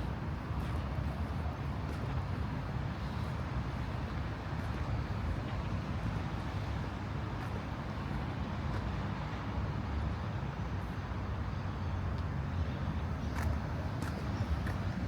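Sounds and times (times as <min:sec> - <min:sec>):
low city rumble: 0:00.0 - 0:15.0
road traffic: 0:00.0 - 0:15.0.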